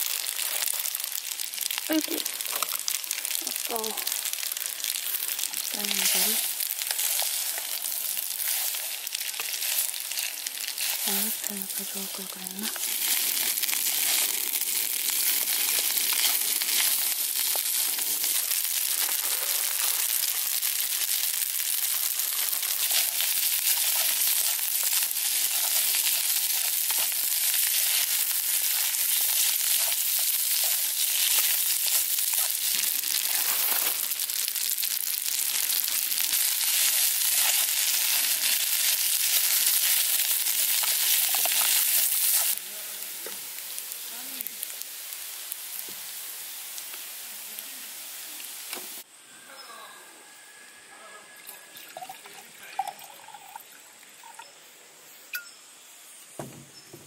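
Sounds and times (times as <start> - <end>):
food sizzling in a frying pan: 0.0 - 49.1.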